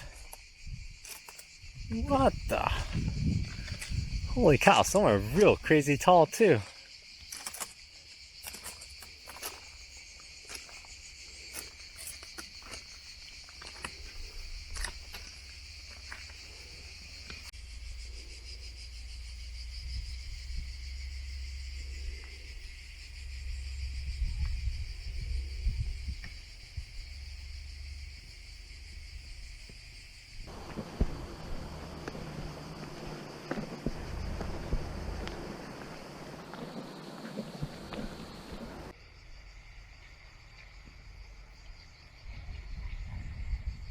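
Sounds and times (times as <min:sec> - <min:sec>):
insects chirring: 0:00.0 - 0:43.9.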